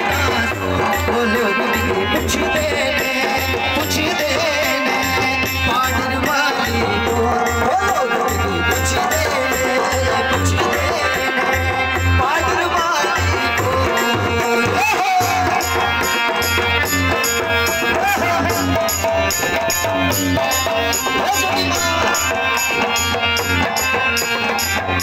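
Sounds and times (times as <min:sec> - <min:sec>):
person singing: 0:00.0 - 0:23.4
barrel drum beating rhythm: 0:00.0 - 0:25.0.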